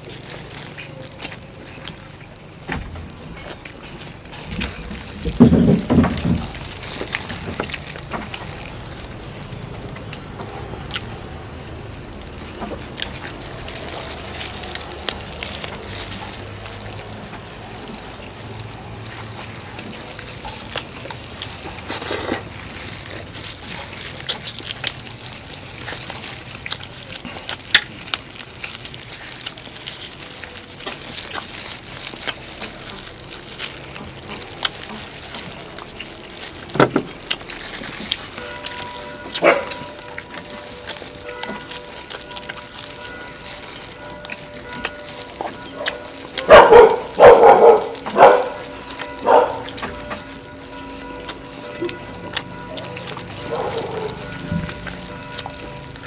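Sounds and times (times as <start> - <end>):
wet chewing and smacking: 0.0 - 56.0.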